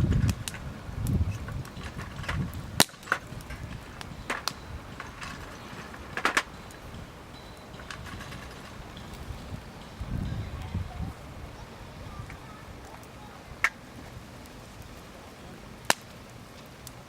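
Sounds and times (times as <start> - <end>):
low gusty rumble: 0.0 - 16.5
campfire crackling and popping: 0.0 - 17.0.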